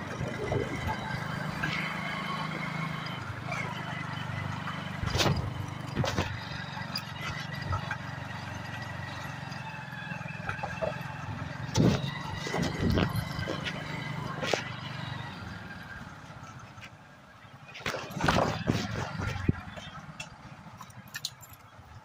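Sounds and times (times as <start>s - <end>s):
motorcycle engine running: 0.0s - 16.8s, 17.7s - 22.0s.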